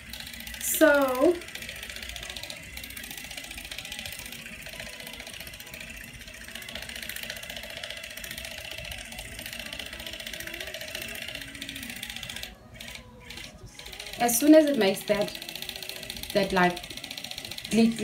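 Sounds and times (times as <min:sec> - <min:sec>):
facial cleansing brush buzzing: 0:00.0 - 0:18.0.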